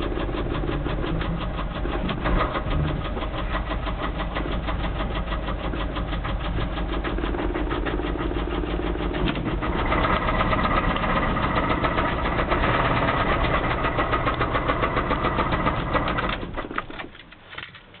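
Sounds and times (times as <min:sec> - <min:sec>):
knocking engine running: 0:00.0 - 0:18.0.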